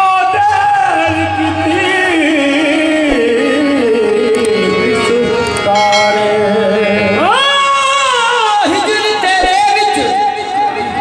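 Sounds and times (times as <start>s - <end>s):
harmoniums sustaining notes: 0.0s - 11.0s
man singing melismatic line: 0.0s - 11.0s.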